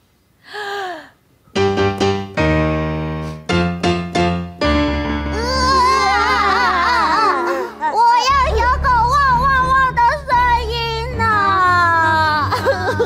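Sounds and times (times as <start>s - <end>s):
electronic keyboard notes and chords: 1.6s - 13.0s.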